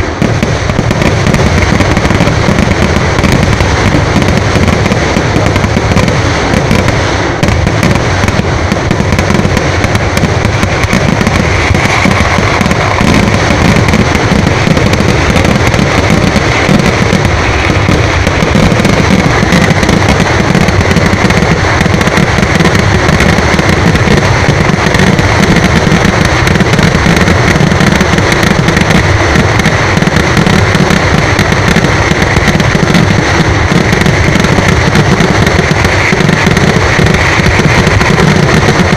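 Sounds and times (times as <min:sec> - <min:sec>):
fireworks exploding: 0:00.0 - 0:38.9.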